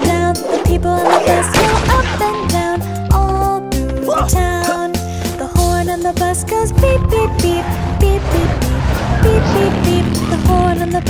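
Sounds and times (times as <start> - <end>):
instrumental children's song: 0.0 - 11.0.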